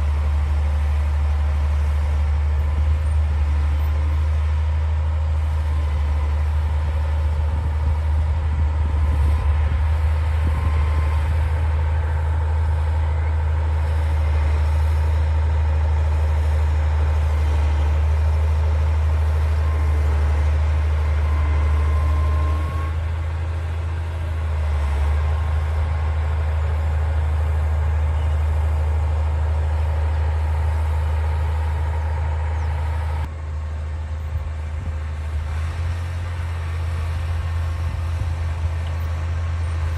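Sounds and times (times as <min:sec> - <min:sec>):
bulldozer diesel engine drone: 0:00.0 - 0:39.9.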